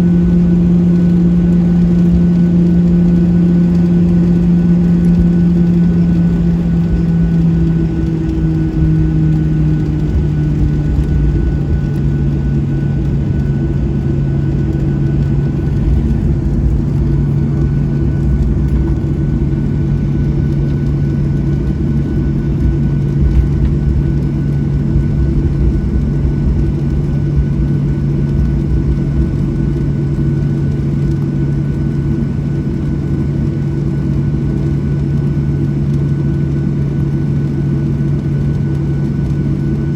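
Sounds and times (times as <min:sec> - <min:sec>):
jet engines idling hum: 0:00.0 - 0:39.9.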